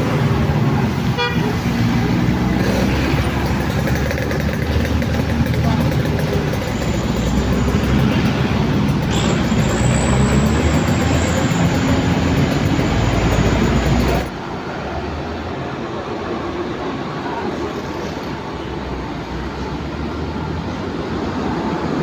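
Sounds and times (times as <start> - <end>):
diesel engine labouring: 0.0 - 22.0.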